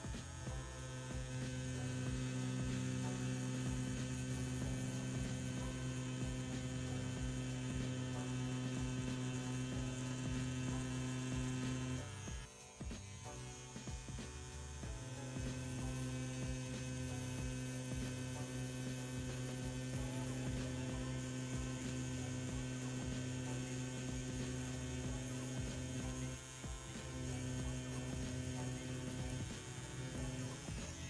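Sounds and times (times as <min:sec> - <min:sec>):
tattoo pen motor humming: 0:00.0 - 0:31.0.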